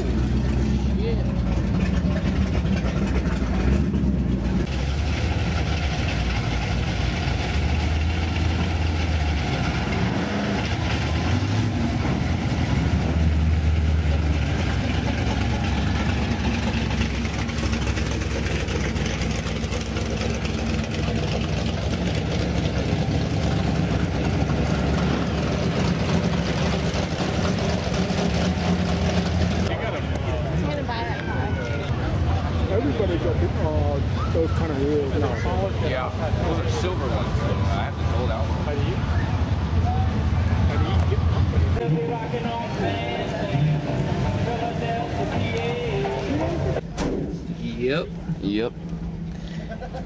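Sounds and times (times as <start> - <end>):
vee eight engines idling and revving: 0.0 - 50.0.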